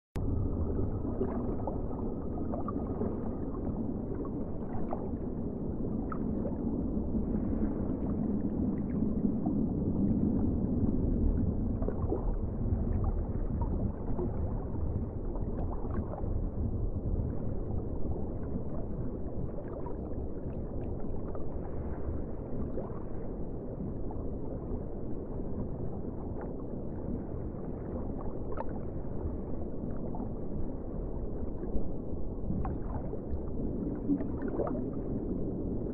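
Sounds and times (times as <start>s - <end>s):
muffled underwater rumble: 0.2s - 35.9s.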